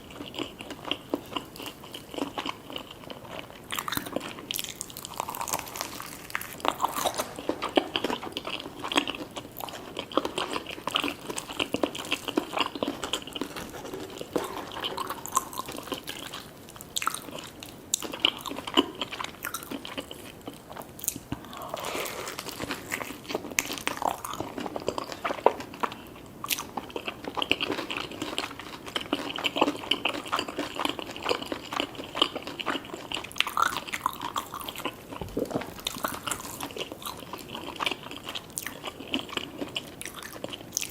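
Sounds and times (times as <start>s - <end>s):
chewing and mouth sounds: 0.0s - 40.9s
crunching bites of fried food: 0.3s - 40.9s.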